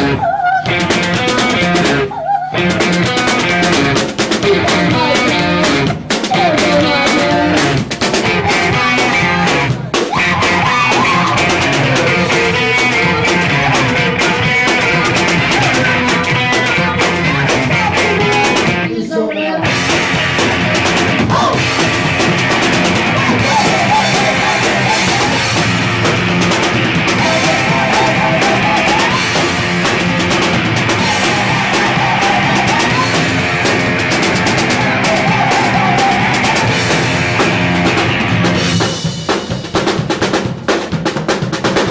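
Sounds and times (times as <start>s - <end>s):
drum kit: 0.0s - 18.9s, 19.6s - 41.9s
bass guitar: 0.0s - 19.0s, 19.6s - 40.6s
distorted electric guitar: 0.0s - 19.0s, 19.6s - 39.3s.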